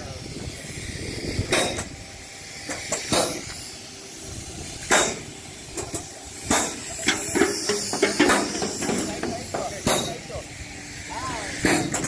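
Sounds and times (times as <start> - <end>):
pneumatic pump air hisses: 0.0 - 12.0.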